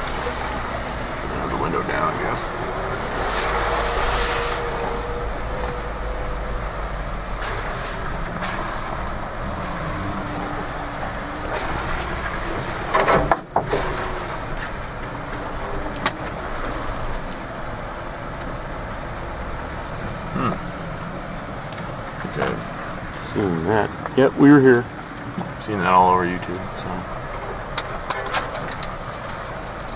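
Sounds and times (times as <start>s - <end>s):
engine and tyre noise: 0.0s - 29.9s.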